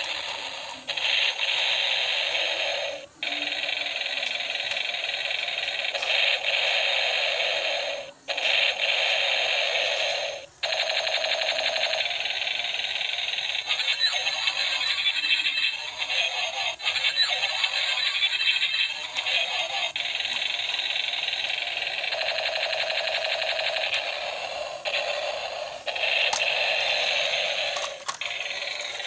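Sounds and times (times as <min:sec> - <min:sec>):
toy tank electronic sound effects: 0:00.0 - 0:29.0
toy tank running: 0:00.0 - 0:29.0.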